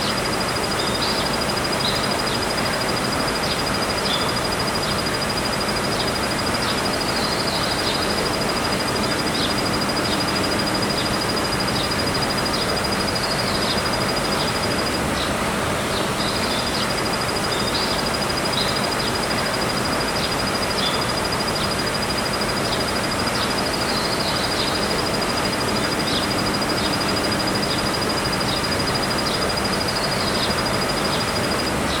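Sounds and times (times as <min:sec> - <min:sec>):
cricket trilling: 0:00.0 - 0:32.0
short lower insect calls: 0:00.0 - 0:32.0.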